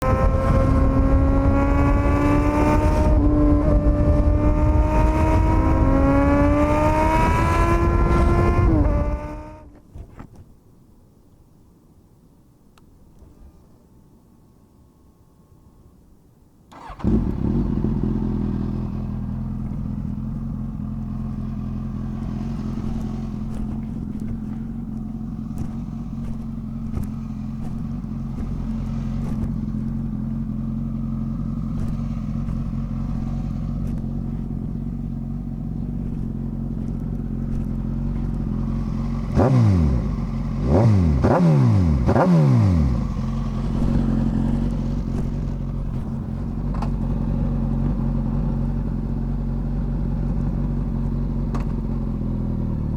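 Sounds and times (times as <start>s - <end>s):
motorcycle engine idling and revving: 0.0s - 9.7s, 16.7s - 52.9s.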